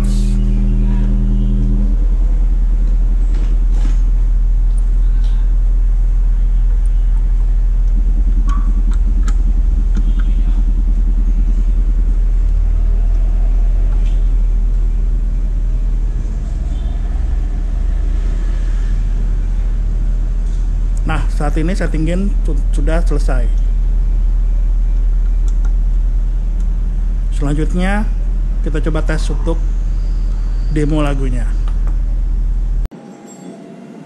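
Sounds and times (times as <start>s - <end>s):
deep subwoofer test tone hum: 0.0s - 32.9s.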